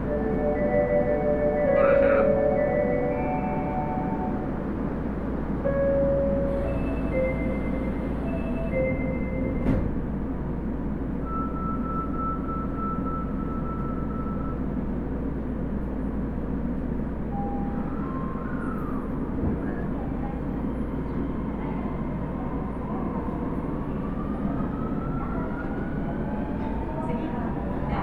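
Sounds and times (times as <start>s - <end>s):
train wheels rumbling on rail: 3.4s - 28.0s.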